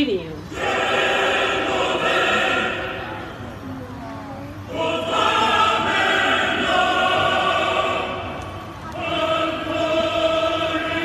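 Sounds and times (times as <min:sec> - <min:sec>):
choir holding sustained chords: 0:00.5 - 0:11.0.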